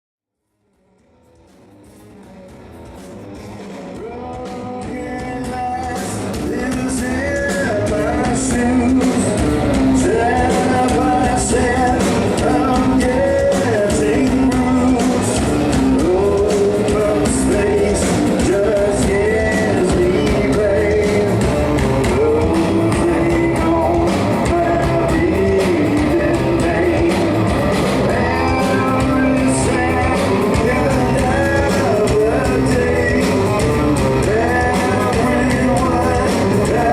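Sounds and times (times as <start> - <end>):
bass guitar: 1.0 - 36.9
electric guitar: 1.2 - 36.9
steady drum beat: 1.4 - 36.9.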